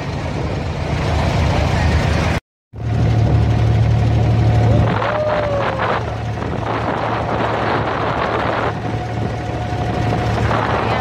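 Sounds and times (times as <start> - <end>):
boat engine droning: 0.0 - 11.0
wind buffeting microphone: 0.0 - 11.0.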